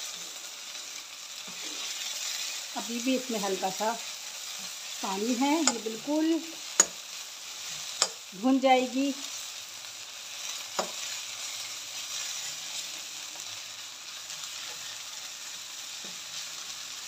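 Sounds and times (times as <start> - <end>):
radish sizzling in a wok: 0.0 - 17.0.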